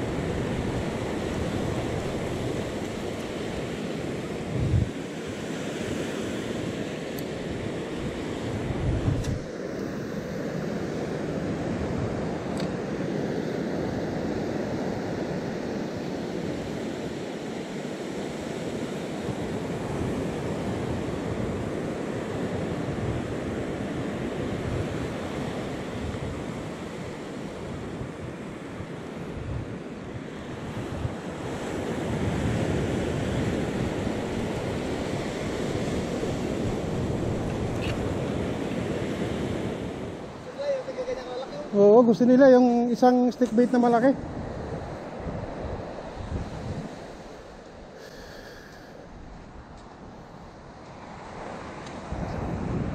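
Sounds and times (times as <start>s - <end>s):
wind on microphone: 0.0s - 17.2s, 18.4s - 52.9s
surf breaking on beach: 0.0s - 52.9s.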